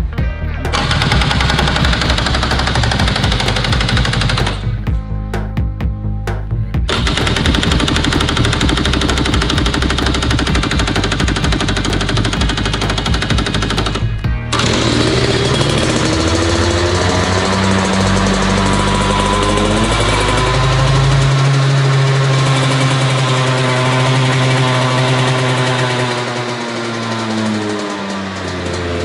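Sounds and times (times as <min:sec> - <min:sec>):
two-stroke kart engine running: 0:00.0 - 0:05.0, 0:06.8 - 0:29.0
background music: 0:00.0 - 0:29.0.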